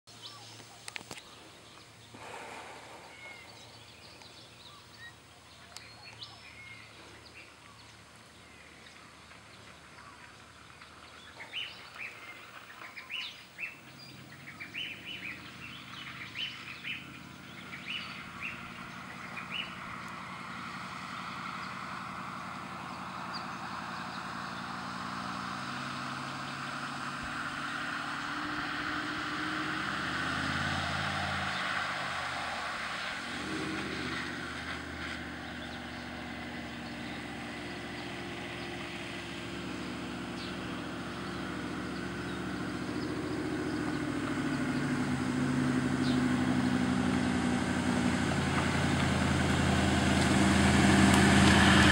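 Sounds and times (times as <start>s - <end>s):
birds chirping: 0.1s - 29.8s, 33.0s - 46.8s
diesel engine driving: 0.1s - 51.9s.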